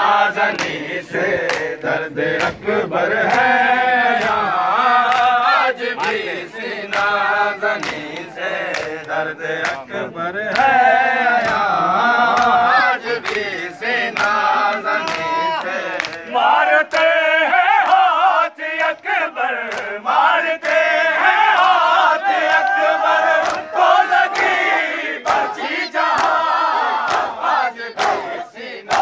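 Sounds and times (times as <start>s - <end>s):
hands slapping chests: 0.0s - 9.9s, 10.5s - 17.2s, 18.8s - 20.0s, 20.6s - 29.0s
men chanting in unison: 0.0s - 29.0s.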